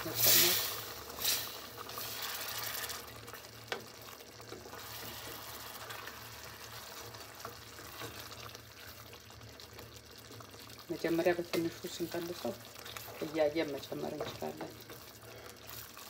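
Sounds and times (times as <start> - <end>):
sauce bubbling and squelching: 0.0 - 16.0
wooden spoon stirring thick sauce: 1.0 - 16.0.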